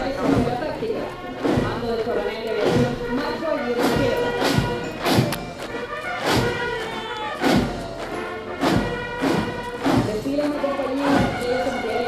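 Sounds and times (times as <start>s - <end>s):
bass drum beat: 0.0s - 5.6s, 6.3s - 10.5s
brass band march: 0.0s - 12.0s.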